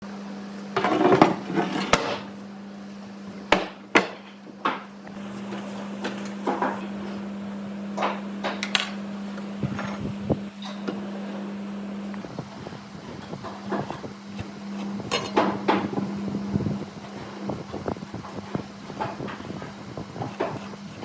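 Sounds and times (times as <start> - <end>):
steady low hum: 0.4 - 21.0.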